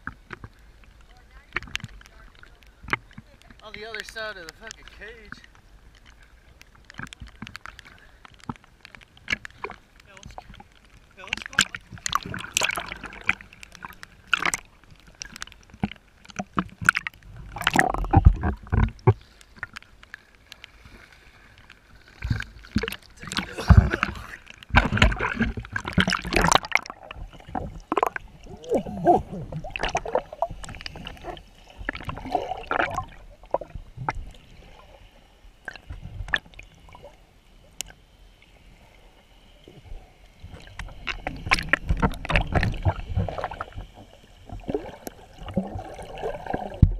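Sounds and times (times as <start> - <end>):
sea water sloshing and gurgling: 0.0 - 46.9.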